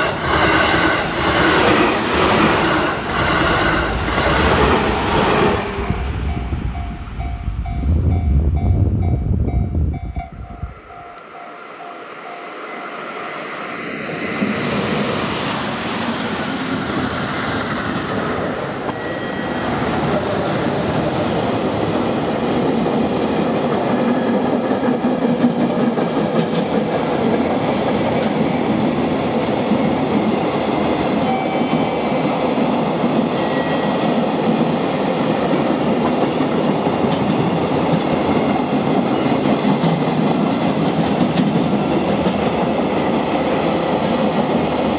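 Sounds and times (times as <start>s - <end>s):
electric train passing: 0.0s - 44.9s
freight train wheels on rails: 0.0s - 44.9s.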